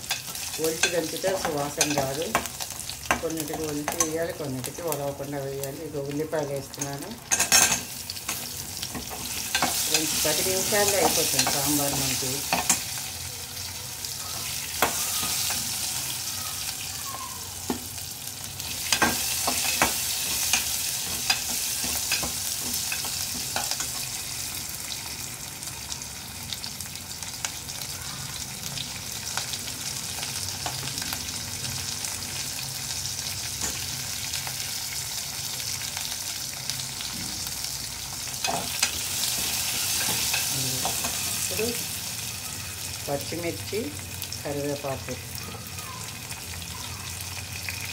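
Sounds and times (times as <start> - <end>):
onion and garlic sizzling in oil: 0.0 - 47.9.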